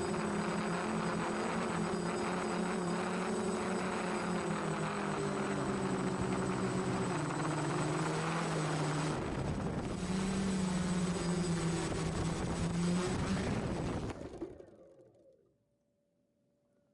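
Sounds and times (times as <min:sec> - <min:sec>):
drone motors and propellers droning: 0:00.0 - 0:15.7.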